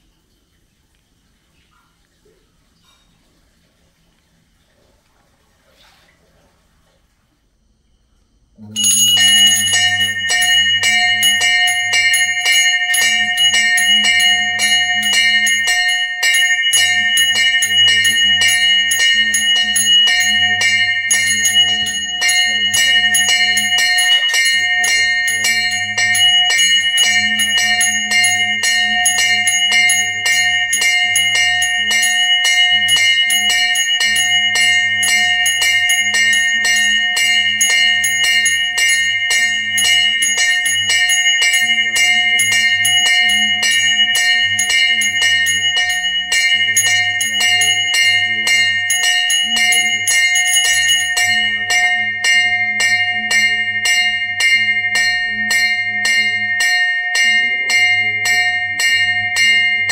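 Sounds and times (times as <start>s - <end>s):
bells ringing rapidly: 8.7s - 59.9s.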